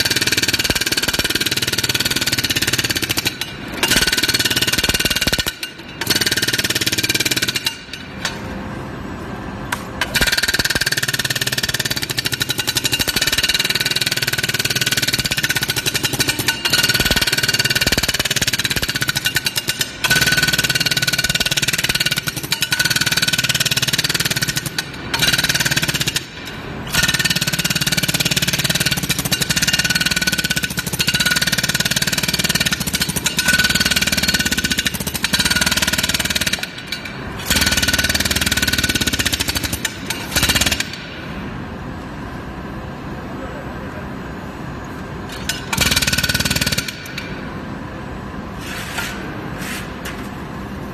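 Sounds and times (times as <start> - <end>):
pneumatic pick hammering: 0.0 - 8.5, 9.7 - 41.3, 45.3 - 47.4.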